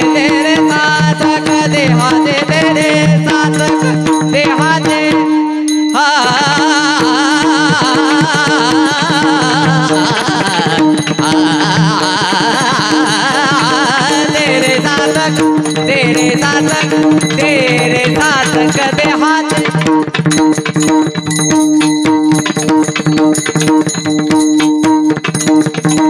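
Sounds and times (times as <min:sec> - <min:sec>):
man singing: 0:00.0 - 0:21.1
hand cymbals: 0:00.0 - 0:26.0
hand drum: 0:00.0 - 0:26.0.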